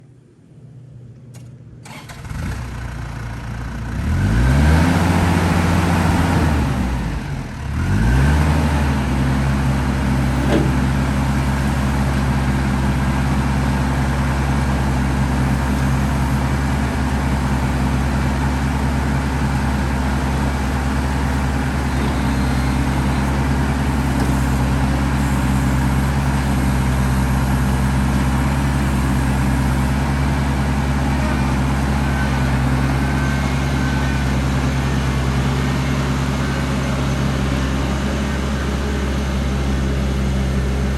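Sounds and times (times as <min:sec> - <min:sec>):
diesel tractor engine: 0:01.8 - 0:40.9.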